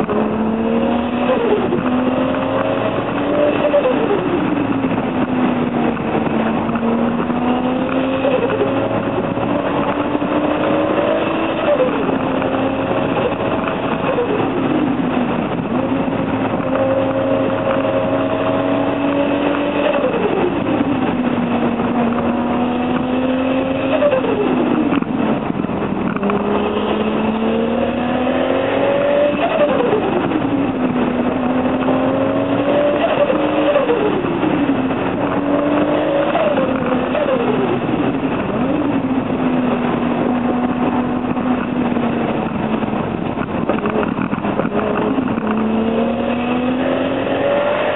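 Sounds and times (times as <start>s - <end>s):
turbocharged car engine revving: 0.0s - 47.9s.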